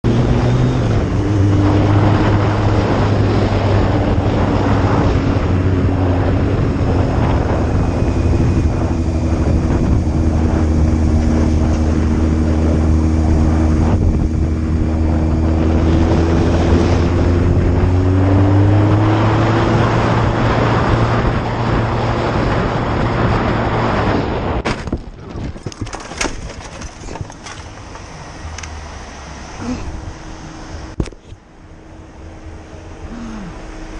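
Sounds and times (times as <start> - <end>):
road and wind noise: 0.0 - 33.9
vehicle engine running: 0.0 - 33.9.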